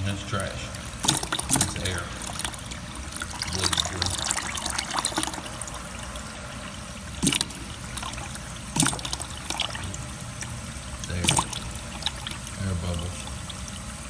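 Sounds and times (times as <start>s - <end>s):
water running from hose: 0.0s - 14.0s.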